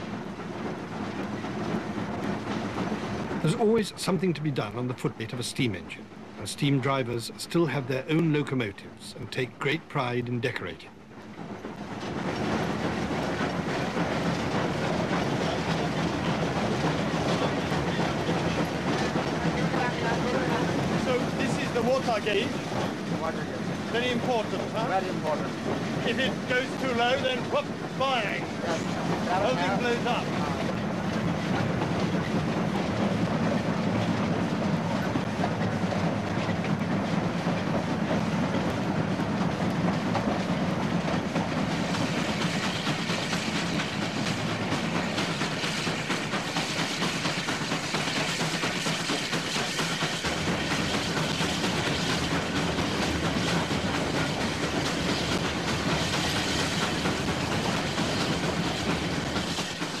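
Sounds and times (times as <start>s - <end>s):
steam locomotive low rumble: 0.0s - 60.0s
wheels clattering on rails: 0.0s - 60.0s.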